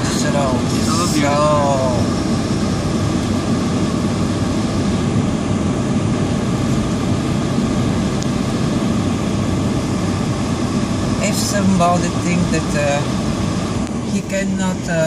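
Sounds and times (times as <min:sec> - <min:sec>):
car interior road noise: 0:00.0 - 0:15.0.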